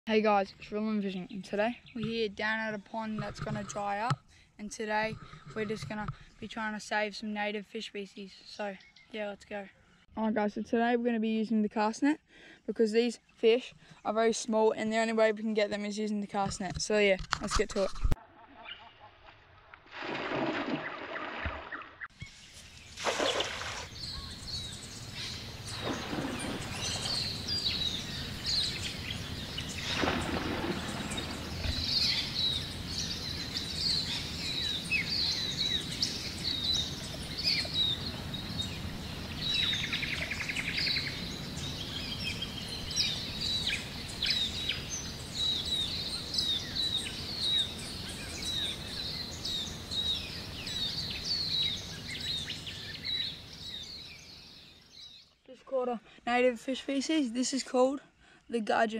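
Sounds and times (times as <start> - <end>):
birds chirping: 0.1 - 17.8, 18.4 - 19.3, 20.8 - 58.8.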